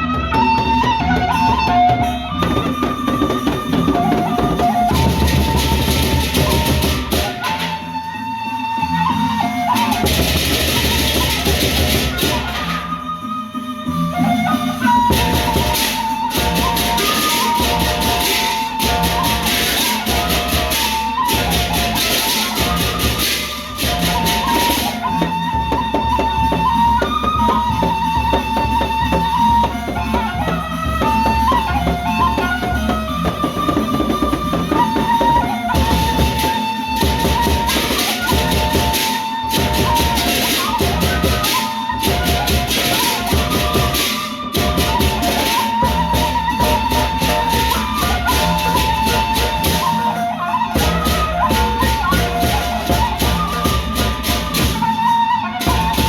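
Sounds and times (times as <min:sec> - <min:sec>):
large drums beating: 0:00.0 - 0:07.7, 0:14.1 - 0:50.0, 0:50.8 - 0:56.0
wavering high melody: 0:00.0 - 0:56.0
cymbals clashing: 0:01.3 - 0:56.0.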